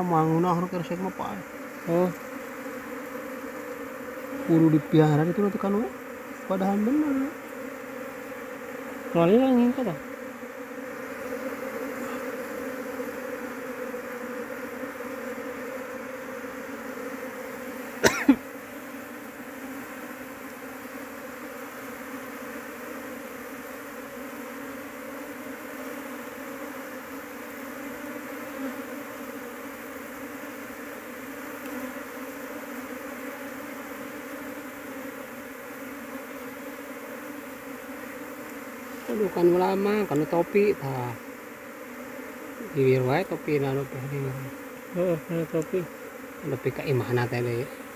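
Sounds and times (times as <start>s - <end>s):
honeybees buzzing: 0.0s - 47.9s.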